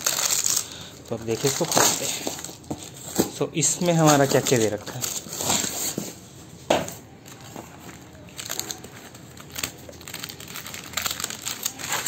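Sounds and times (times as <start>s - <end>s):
packaging rustling and crinkling: 0.0s - 6.2s, 6.9s - 12.0s.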